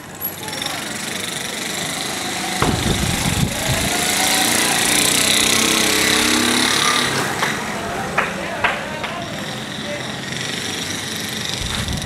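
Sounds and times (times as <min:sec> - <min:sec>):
loud engine noise: 0:00.0 - 0:12.0.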